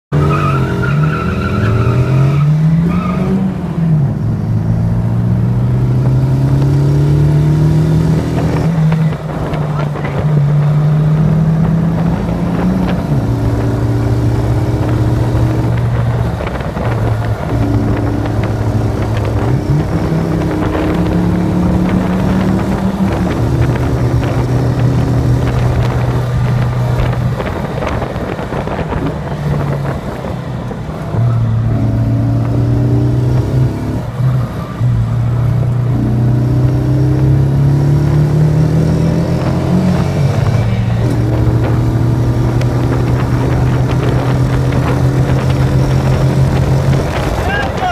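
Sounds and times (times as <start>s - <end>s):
gear changes: 0.1s - 47.9s
sports car engine accelerating: 0.1s - 47.9s
wind and road noise: 0.1s - 47.9s.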